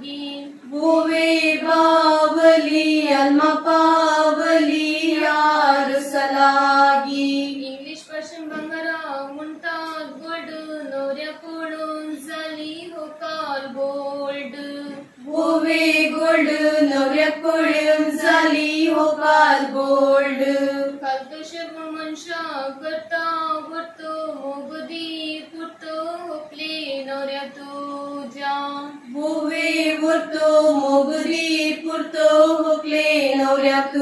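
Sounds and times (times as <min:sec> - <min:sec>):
women singing in unison: 0:00.0 - 0:34.0.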